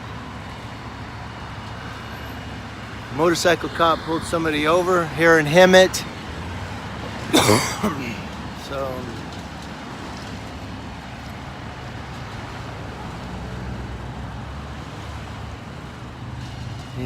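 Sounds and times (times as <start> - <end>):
road traffic noise: 0.0 - 17.0
vehicle engine hum: 0.0 - 17.0.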